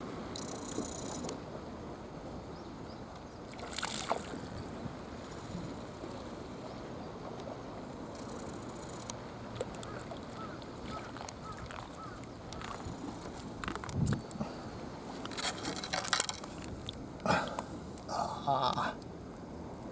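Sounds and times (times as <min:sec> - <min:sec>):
rustle: 0:00.0 - 0:19.9.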